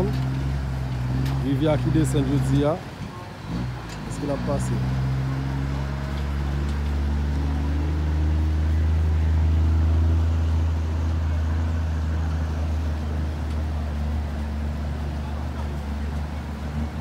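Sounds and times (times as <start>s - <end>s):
truck engine low hum: 0.0s - 17.0s.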